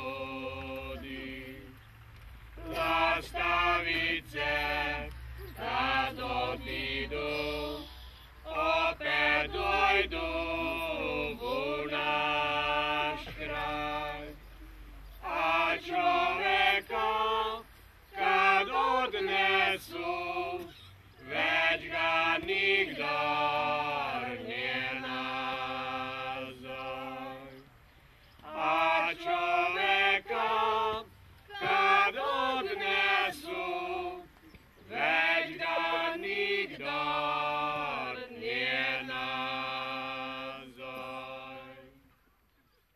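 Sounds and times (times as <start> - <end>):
group singing unaccompanied: 0.0 - 42.1.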